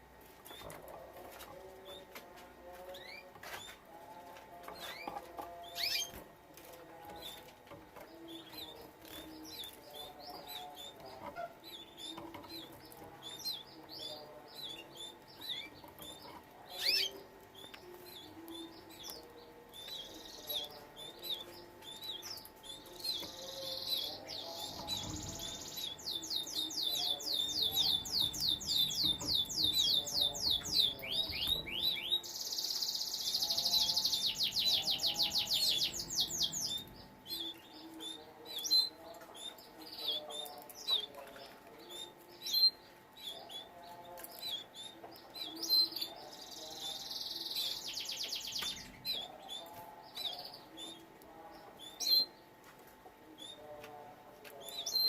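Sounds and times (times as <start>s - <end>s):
canaries chirping: 0.0s - 55.0s
canary singing with trills: 0.4s - 55.0s.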